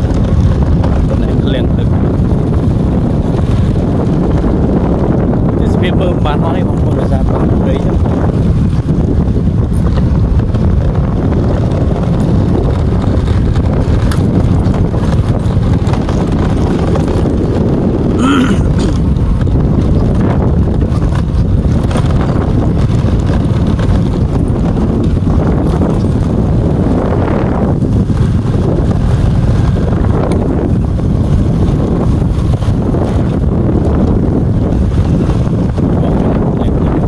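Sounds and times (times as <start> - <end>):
vehicle rumble: 0.0 - 37.0
wind buffeting microphone: 0.0 - 37.0.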